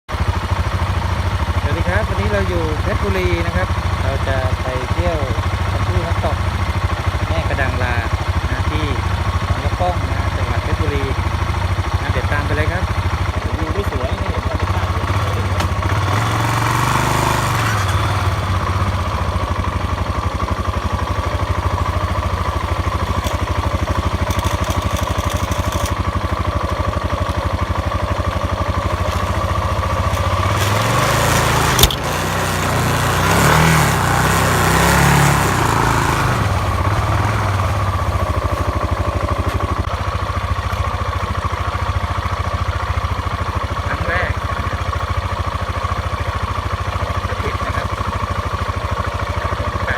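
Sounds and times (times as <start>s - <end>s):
motorcycle engine running: 0.1s - 49.9s.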